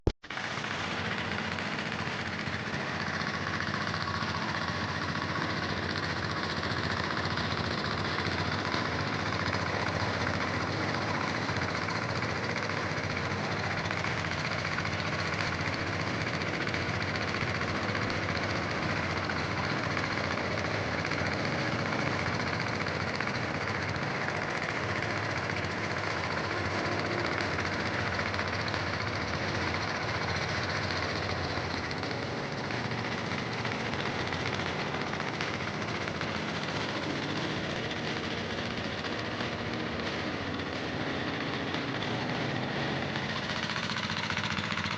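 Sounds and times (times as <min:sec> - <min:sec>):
diesel engine running steadily: 0:00.3 - 0:44.9.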